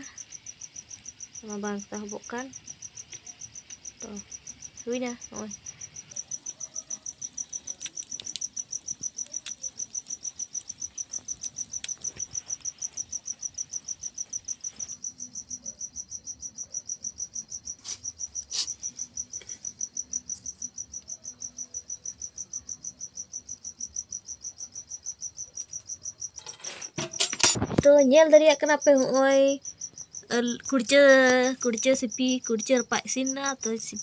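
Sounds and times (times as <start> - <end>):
cricket chirping: 0.0 - 34.0.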